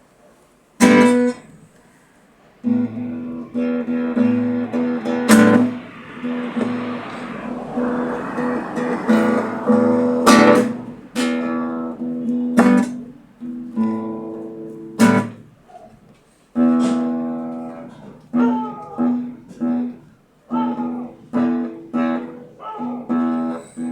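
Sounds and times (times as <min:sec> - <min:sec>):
guitar strummed chords: 0:00.8 - 0:01.7, 0:02.6 - 0:15.6, 0:16.6 - 0:23.9.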